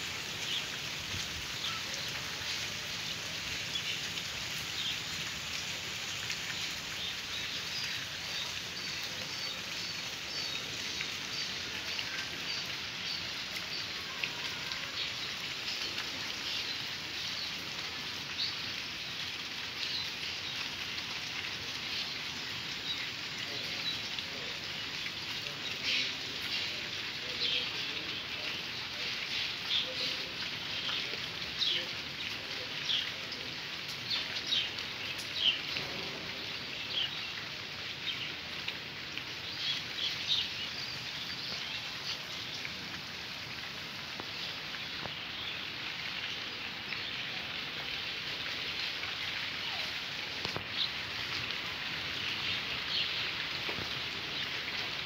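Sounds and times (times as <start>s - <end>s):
rain hissing: 0.0s - 55.0s.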